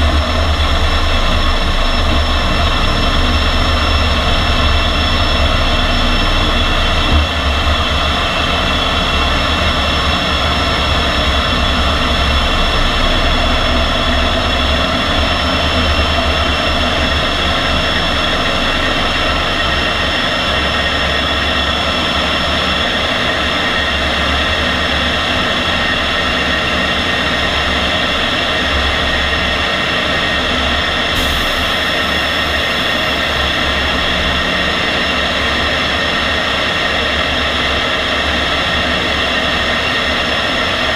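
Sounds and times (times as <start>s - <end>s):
jet engine whine and rumble: 0.0s - 40.9s.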